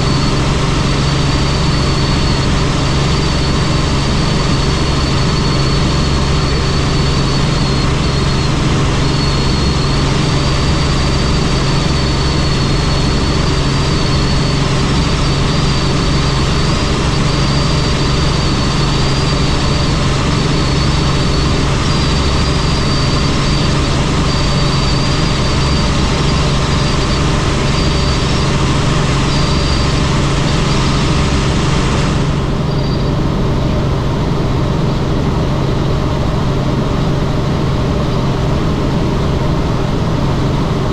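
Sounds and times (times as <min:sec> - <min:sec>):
helicopter engine and rotor noise: 0:00.0 - 0:40.9
high wavering whine: 0:00.0 - 0:40.9.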